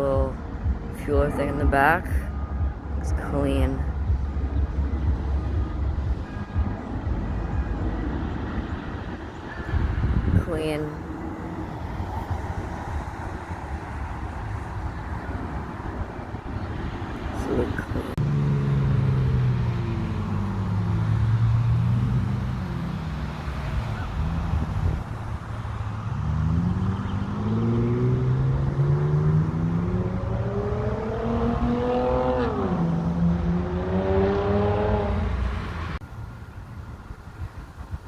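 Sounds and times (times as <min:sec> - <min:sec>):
vehicle engine accelerating: 0:00.0 - 0:36.9.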